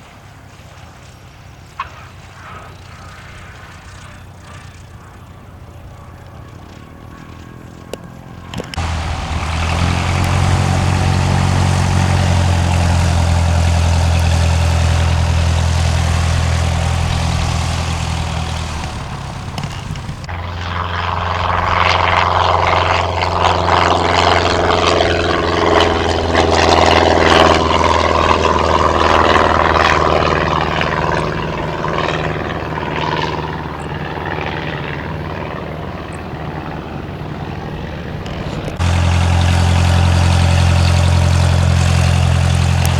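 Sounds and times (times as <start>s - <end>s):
airplane engine and propeller drone: 0.0s - 42.9s
propeller and air rush: 2.0s - 42.9s.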